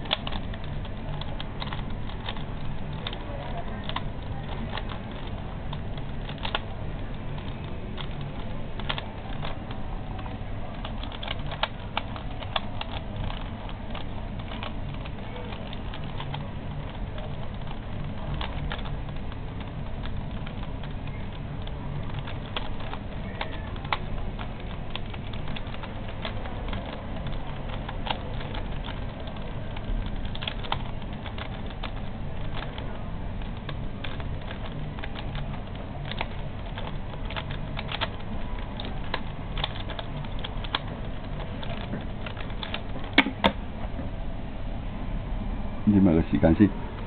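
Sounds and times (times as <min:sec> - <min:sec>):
puzzle cube plastic clicks: 0:00.0 - 0:43.6
low background hum: 0:00.0 - 0:47.0.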